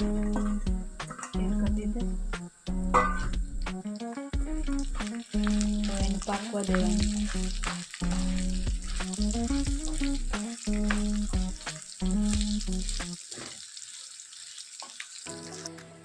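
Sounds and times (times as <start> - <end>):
background music with melody: 0.0 - 13.2, 15.3 - 16.0
food sizzling in a pan: 2.1 - 16.0.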